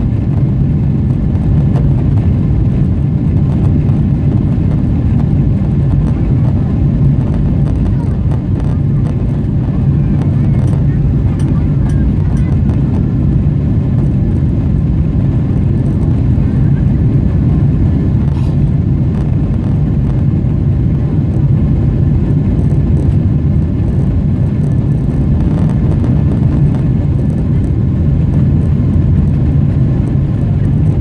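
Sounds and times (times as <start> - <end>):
jet engine drone in cabin: 0.0 - 31.0.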